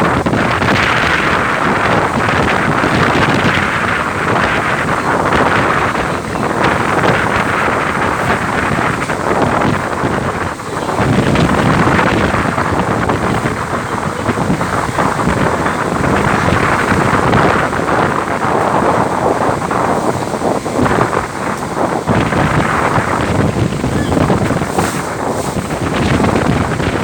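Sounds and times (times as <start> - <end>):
strong wind on microphone: 0.0 - 27.0.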